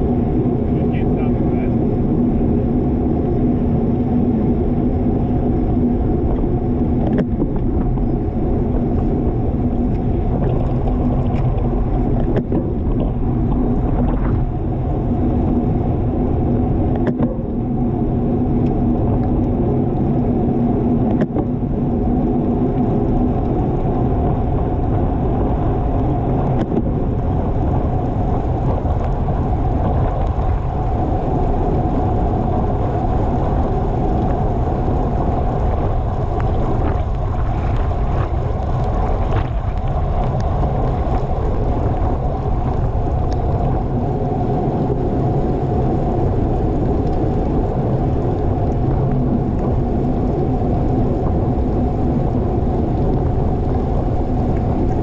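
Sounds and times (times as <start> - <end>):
bicycle road noise: 0.0 - 55.0
wind over the microphone: 0.0 - 55.0.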